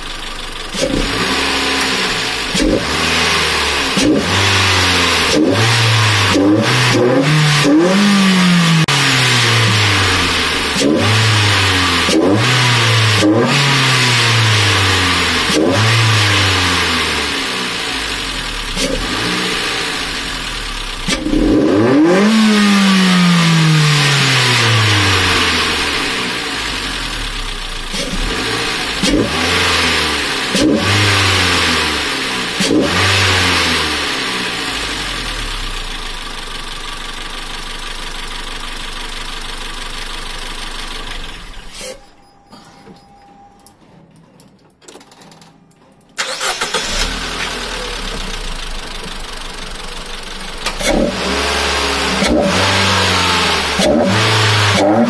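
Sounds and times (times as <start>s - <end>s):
car engine revving and idling: 0.0s - 42.0s, 46.2s - 55.0s.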